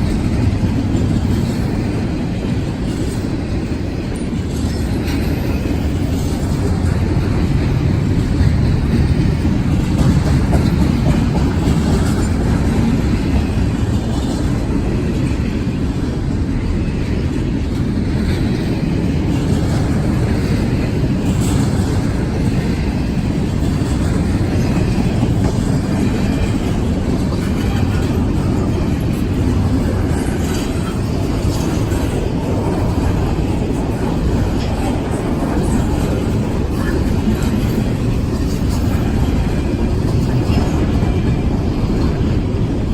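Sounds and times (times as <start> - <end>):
freight train cars rumbling past: 0.0 - 42.9.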